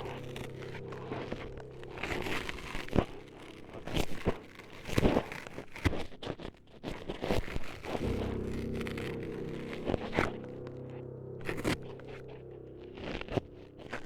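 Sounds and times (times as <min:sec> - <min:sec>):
crinkling and scraping noises: 0:00.0 - 0:14.0.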